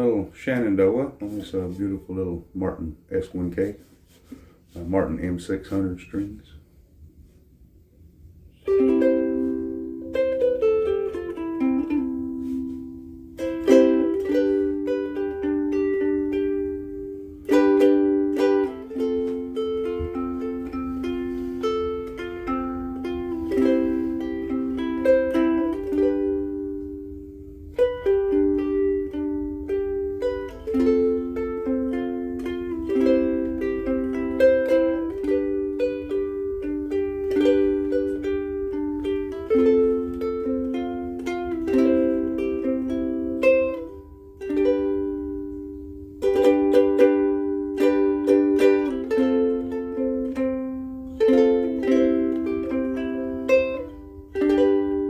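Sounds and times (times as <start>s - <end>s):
ukulele plucked notes and chords: 8.5s - 55.0s.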